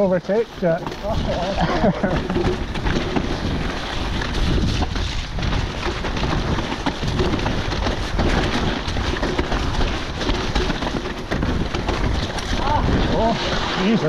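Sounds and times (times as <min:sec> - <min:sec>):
bike rattling over rough ground: 0:00.0 - 0:14.0
wind on microphone: 0:01.0 - 0:14.0.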